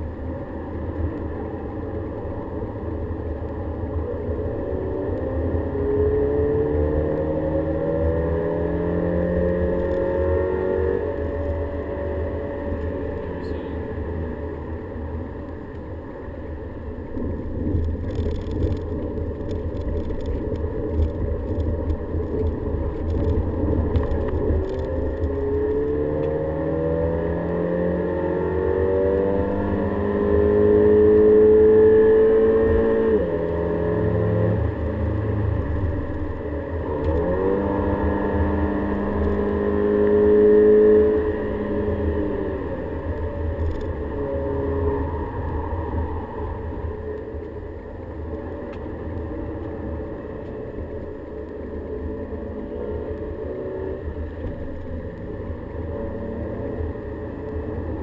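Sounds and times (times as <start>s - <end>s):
road and tyre rumble: 0.0s - 58.0s.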